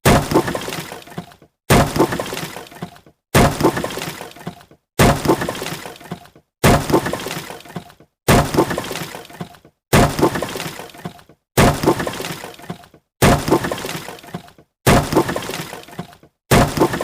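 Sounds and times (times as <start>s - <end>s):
wood cracking and splintering: 0.0s - 17.0s.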